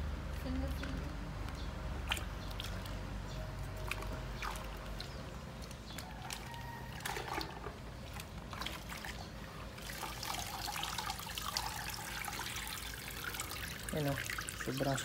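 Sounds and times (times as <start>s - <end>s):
small splashes and drips: 0.8s - 15.0s
water sloshing in bucket: 2.0s - 15.0s.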